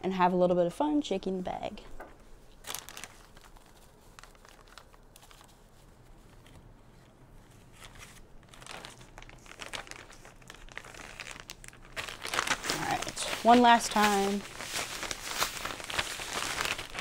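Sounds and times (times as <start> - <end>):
plastic bag crinkling: 2.4 - 6.8, 7.5 - 17.0.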